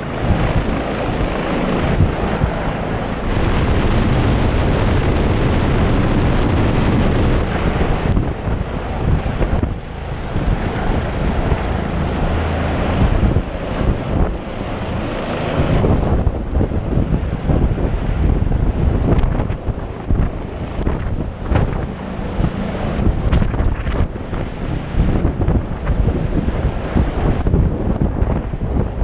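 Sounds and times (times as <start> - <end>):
helicopter engine rumble: 0.0 - 29.0
wind buffeting microphone: 0.0 - 29.0.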